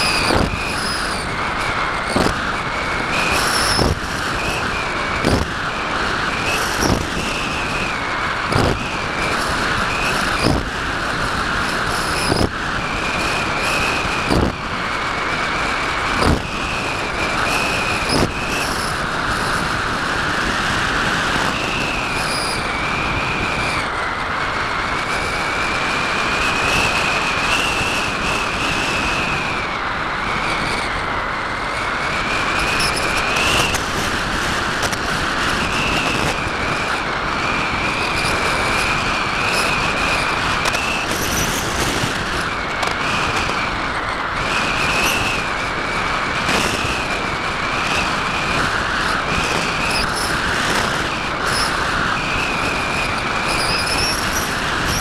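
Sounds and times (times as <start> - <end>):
electric motor high whine: 0.0 - 23.9, 25.0 - 55.0
rushing wind noise: 0.0 - 55.0.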